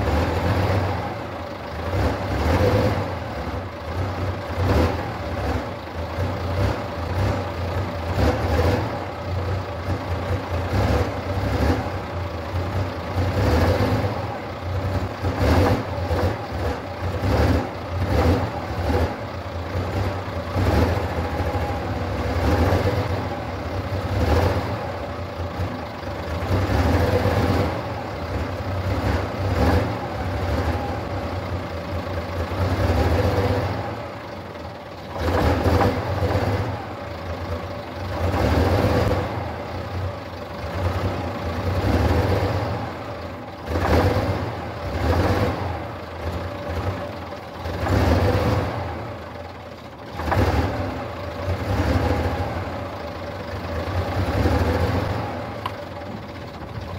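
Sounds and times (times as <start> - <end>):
diesel truck engine revving: 0.0 - 56.9.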